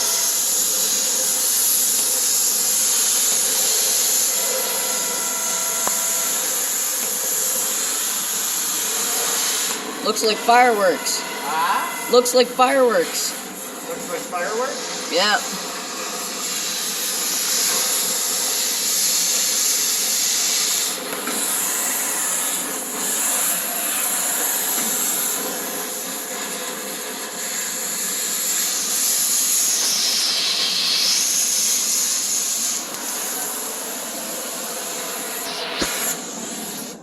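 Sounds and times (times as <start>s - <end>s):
sparks crackling: 0.0s - 11.2s, 12.2s - 37.0s
cutting torch hissing: 0.0s - 37.0s.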